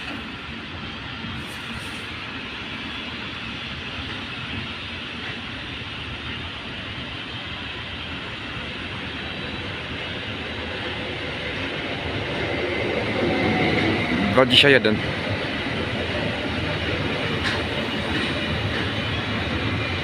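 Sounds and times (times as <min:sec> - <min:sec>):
electric train approaching: 0:00.0 - 0:20.0.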